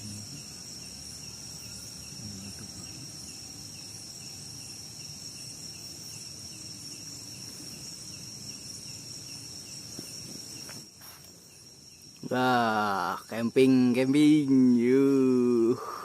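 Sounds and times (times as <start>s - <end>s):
high-pitched insect trill: 0.0s - 16.0s
insect chirping: 0.0s - 16.0s.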